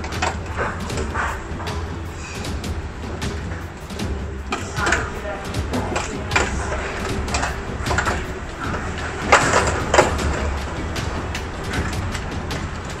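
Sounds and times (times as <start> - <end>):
heavy rain on glass: 0.0 - 13.0.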